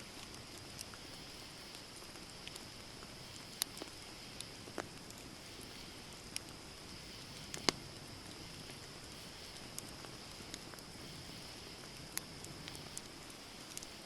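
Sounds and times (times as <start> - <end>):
fire hissing softly: 0.0 - 14.0
campfire pops and snaps: 0.1 - 14.0.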